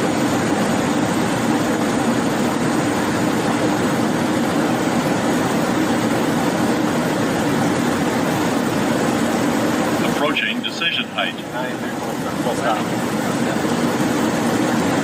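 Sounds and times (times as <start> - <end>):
constant low hum: 0.0 - 15.0.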